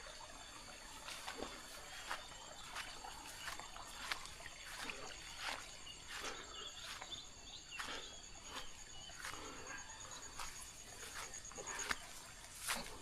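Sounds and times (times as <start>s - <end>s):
footsteps walking: 0.9s - 13.0s
bird chirps: 1.4s - 13.0s.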